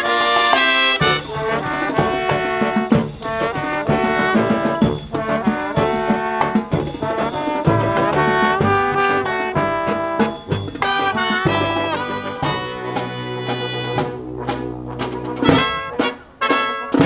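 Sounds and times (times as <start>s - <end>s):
brass marching band playing: 0.0s - 17.0s
drum keeping the beat: 0.0s - 17.0s.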